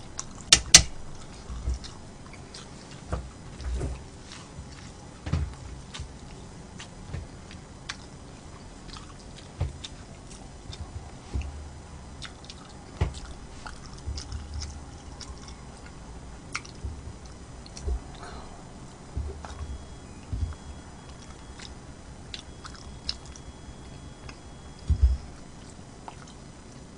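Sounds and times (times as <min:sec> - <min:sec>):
low thuds: 0:00.0 - 0:25.6
chewing and biting food: 0:00.0 - 0:26.9.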